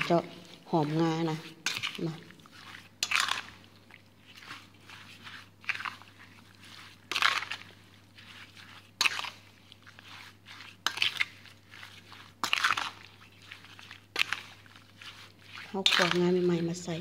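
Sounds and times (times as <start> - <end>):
spoon mixing wet meat in bowl: 0.0 - 17.0.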